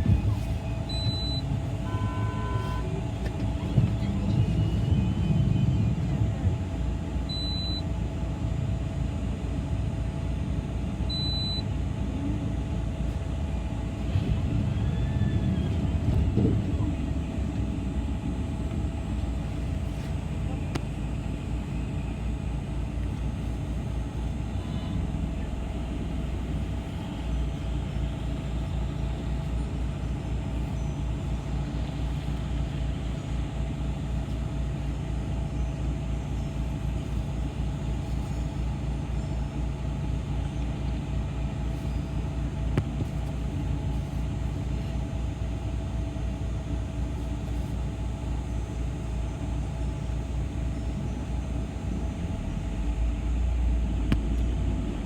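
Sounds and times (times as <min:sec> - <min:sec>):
bus engine and road rumble: 0:00.0 - 0:55.0
faint hum: 0:00.0 - 0:55.0.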